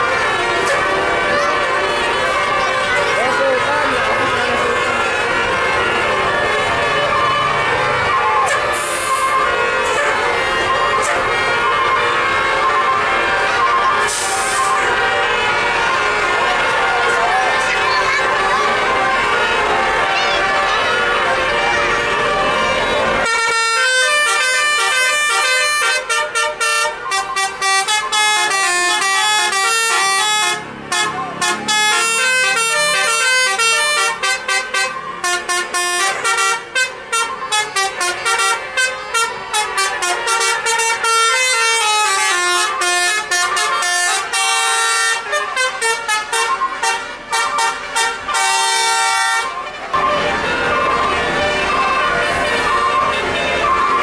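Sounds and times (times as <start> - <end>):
multi-tone air horn melody: 0.0 - 54.0.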